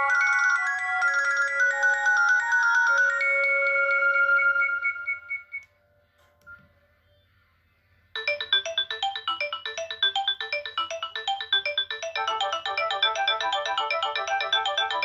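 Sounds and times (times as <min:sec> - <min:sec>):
polyphonic ringtone tune: 0:00.0 - 0:05.6, 0:08.2 - 0:15.0.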